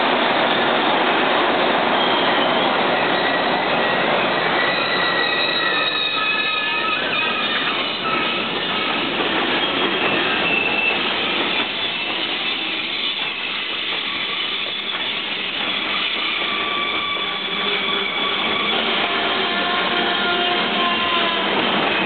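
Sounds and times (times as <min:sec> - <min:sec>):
train wheels rumbling on rail: 0:00.0 - 0:22.0
steel-on-steel squeals: 0:01.8 - 0:22.0.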